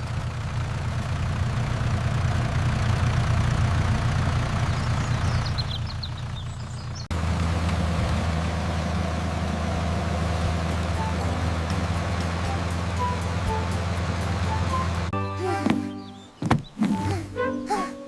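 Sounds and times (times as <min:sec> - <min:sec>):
smooth engine sound: 0:00.0 - 0:16.1
combine harvester engine rumbling: 0:00.0 - 0:18.0.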